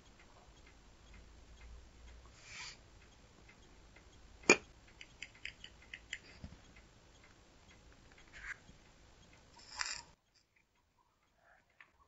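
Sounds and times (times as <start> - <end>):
light ticks: 0.0 - 2.3, 3.0 - 12.0.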